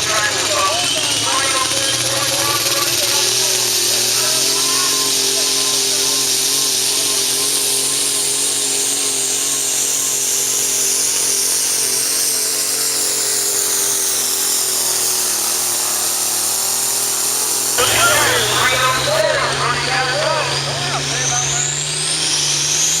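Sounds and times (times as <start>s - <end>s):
high engine whine: 0.0s - 23.0s
tractor engine running flat out: 0.0s - 23.0s.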